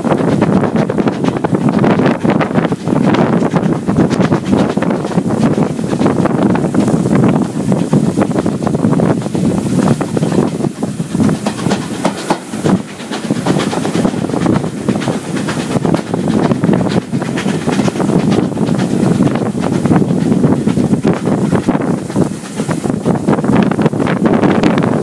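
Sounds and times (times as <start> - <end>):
train wheels clattering on rails: 0.0 - 25.0
wind noise on microphone: 0.0 - 25.0.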